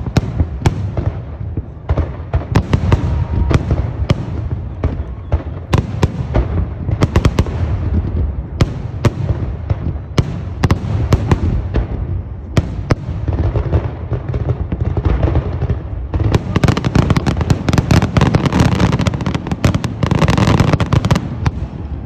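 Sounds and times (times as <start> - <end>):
fireworks booming: 0.0 - 22.0
fireworks sharp bangs: 0.0 - 22.0.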